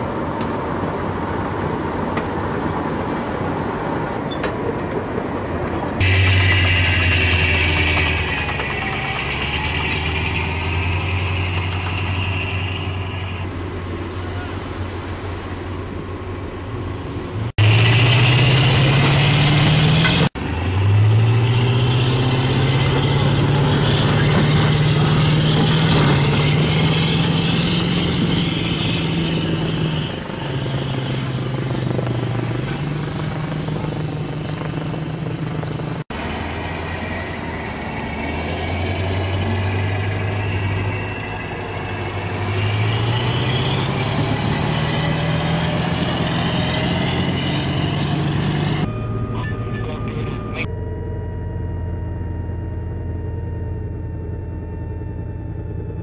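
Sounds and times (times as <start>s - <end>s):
diesel engine revving: 5.9s - 50.7s
high whine: 5.9s - 56.0s.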